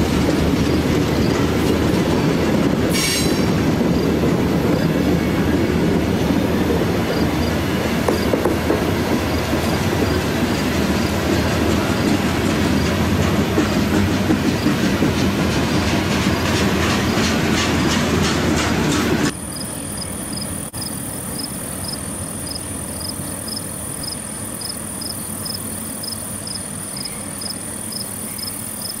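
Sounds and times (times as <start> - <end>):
train wheels clicking over rail joints: 0.0 - 29.0.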